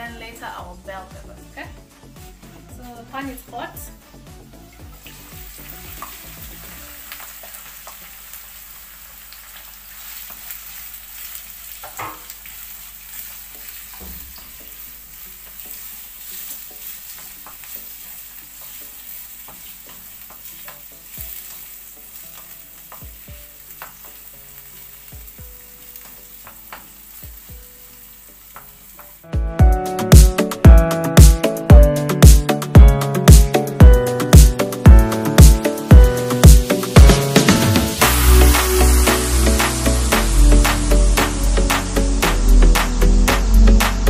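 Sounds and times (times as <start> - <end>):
onions sizzling in frying pan: 0.0 - 44.0.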